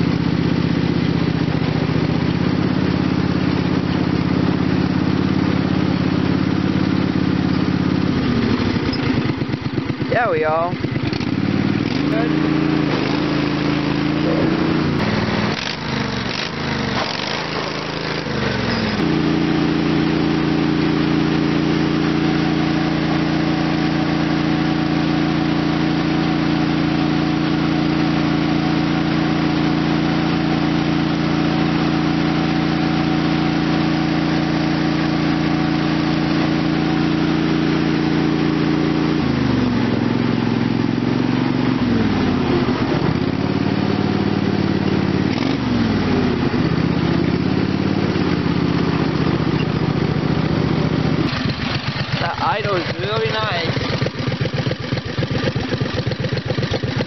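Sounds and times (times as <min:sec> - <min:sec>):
lawn tractor engine revving: 0:00.0 - 0:57.0.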